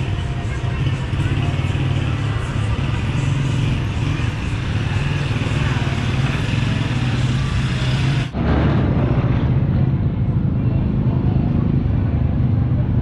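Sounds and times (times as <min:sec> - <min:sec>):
faint voices: 0:00.0 - 0:13.0
motorcycle engines running: 0:00.0 - 0:13.0.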